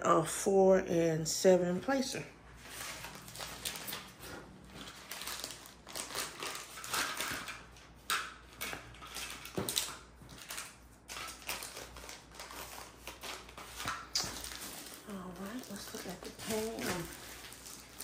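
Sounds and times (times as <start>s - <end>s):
packaging rustling and crackling: 2.6s - 18.0s.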